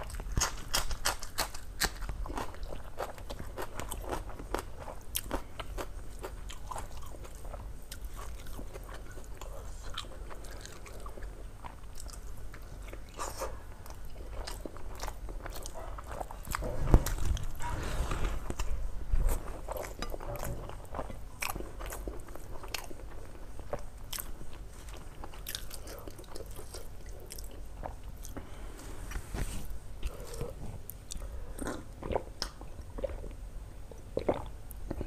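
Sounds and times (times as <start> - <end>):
person chewing and crunching food: 0.0 - 35.0.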